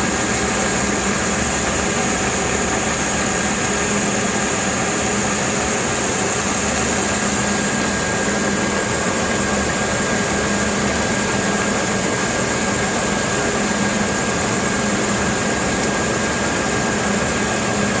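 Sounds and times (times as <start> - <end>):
pump engine running: 0.0 - 18.0
rushing hiss of mud and water: 0.0 - 18.0.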